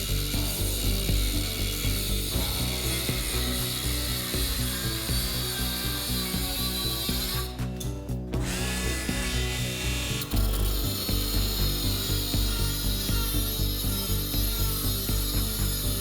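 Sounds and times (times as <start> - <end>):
angle grinder cutting metal: 0.0 - 16.0
rhythmic low pulsing: 0.0 - 16.0.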